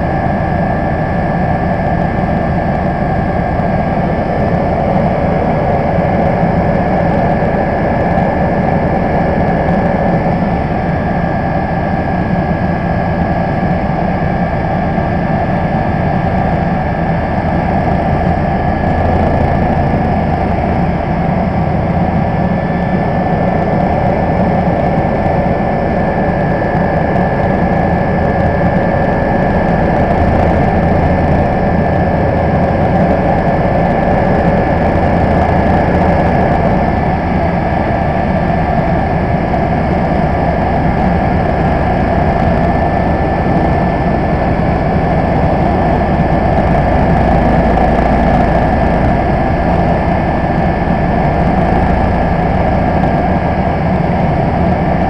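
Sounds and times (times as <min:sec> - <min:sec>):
helicopter cabin engine and rotor noise: 0:00.0 - 0:55.0.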